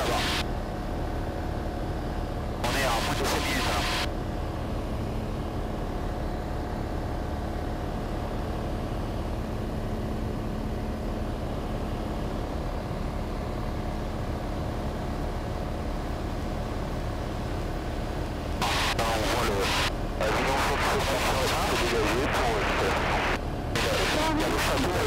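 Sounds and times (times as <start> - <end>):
aircraft engine and propeller drone: 0.0 - 25.0.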